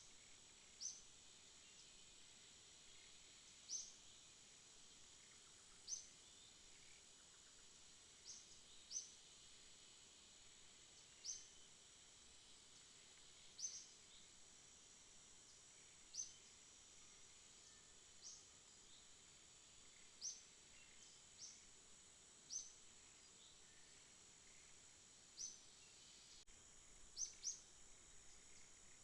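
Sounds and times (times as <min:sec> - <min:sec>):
high-pitched insect hum: 0:00.0 - 0:29.0.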